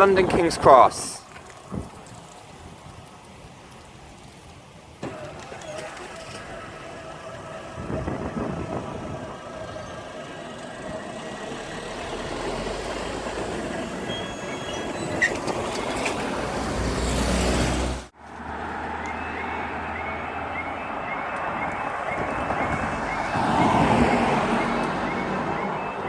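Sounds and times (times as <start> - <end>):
diesel train passing: 5.1 - 26.0.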